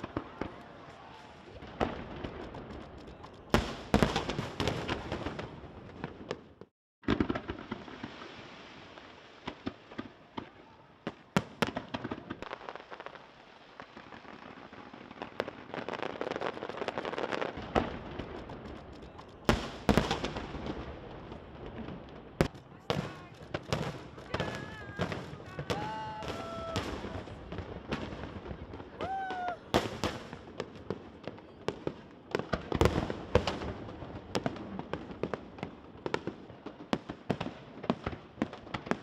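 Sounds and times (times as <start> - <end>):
fireworks crackling: 0.0 - 39.0.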